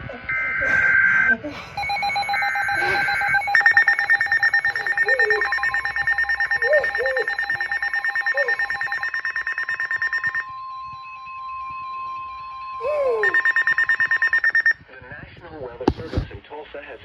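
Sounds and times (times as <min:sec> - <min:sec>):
rapid pulsing alarm beeps: 0:00.0 - 0:14.8
steady attention tone: 0:00.1 - 0:14.8.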